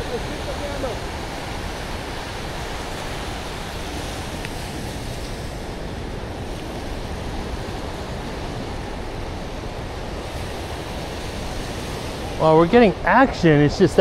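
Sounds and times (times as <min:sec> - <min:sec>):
ocean surf breaking: 0:00.0 - 0:14.0
wind noise on microphone: 0:00.0 - 0:14.0.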